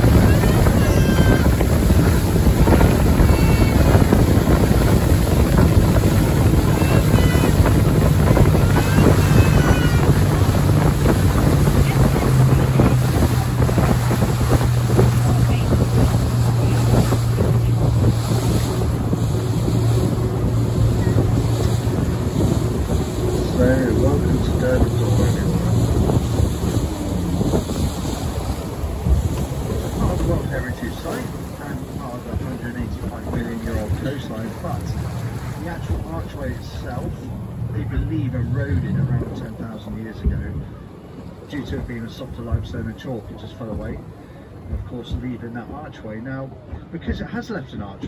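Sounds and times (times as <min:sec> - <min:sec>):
wind buffeting microphone: 0:00.0 - 0:46.9
boat motor running: 0:00.0 - 0:48.0
water rushing past hull: 0:00.0 - 0:48.0.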